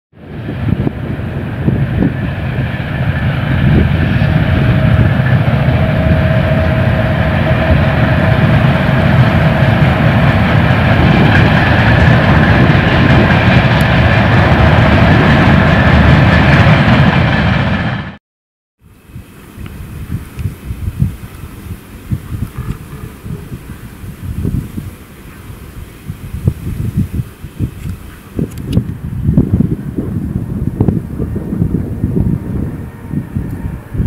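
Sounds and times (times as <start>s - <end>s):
freight train wheels rolling: 0.2s - 18.2s, 18.9s - 34.0s.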